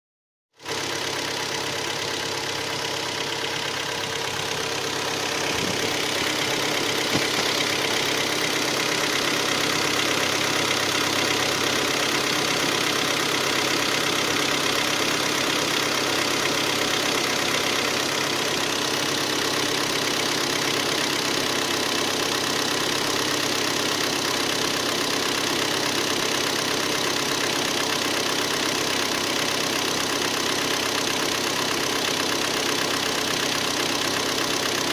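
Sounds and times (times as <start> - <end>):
car engine idling with knock: 0.8 - 34.9.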